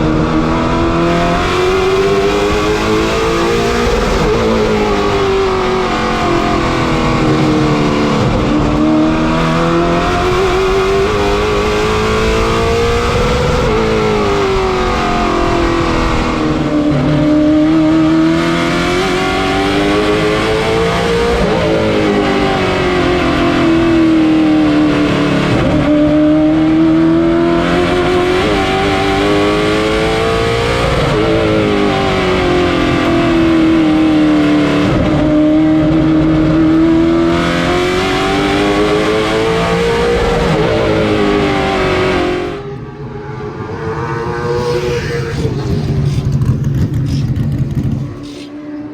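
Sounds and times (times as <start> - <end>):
racing car engine at speed: 0.0 - 48.9.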